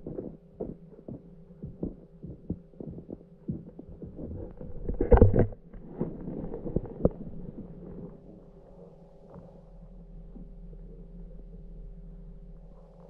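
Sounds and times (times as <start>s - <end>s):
underwater low hum: 0.0s - 13.0s.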